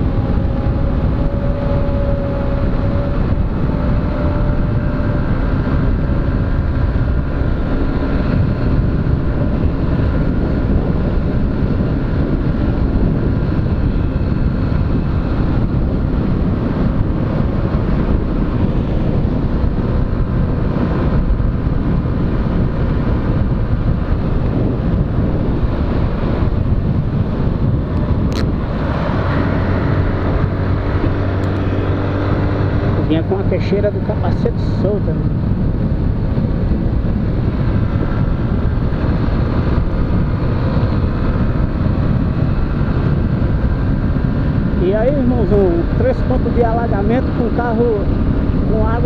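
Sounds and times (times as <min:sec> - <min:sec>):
wind on microphone: 0:00.0 - 0:49.0.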